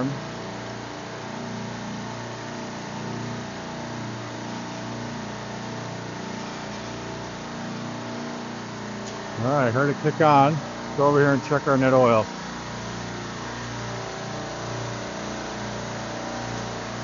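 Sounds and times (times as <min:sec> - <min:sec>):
refrigeration compressors humming: 0:00.0 - 0:17.0.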